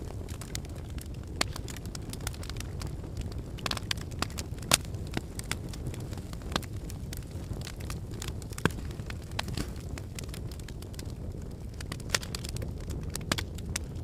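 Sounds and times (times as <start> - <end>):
fire crackles and pops: 0.0 - 14.0
fire flames burning: 0.0 - 14.0.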